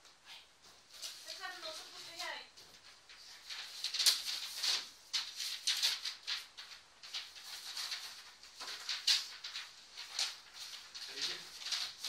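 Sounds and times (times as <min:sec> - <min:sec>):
paper rustling: 0:00.6 - 0:12.0.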